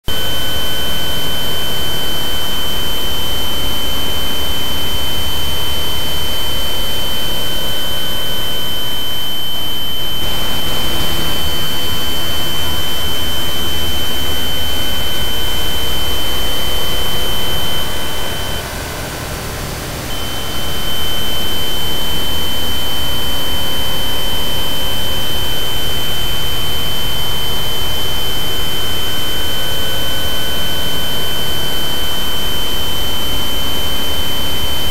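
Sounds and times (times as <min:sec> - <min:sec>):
steady high-pitched tones: 0:00.1 - 0:34.9.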